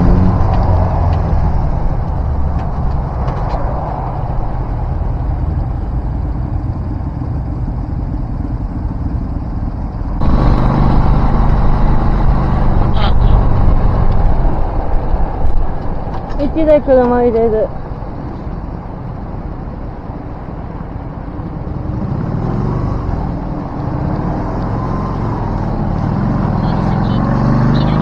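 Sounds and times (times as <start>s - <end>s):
road noise: 0.0s - 28.0s
vehicle engine: 0.0s - 28.0s.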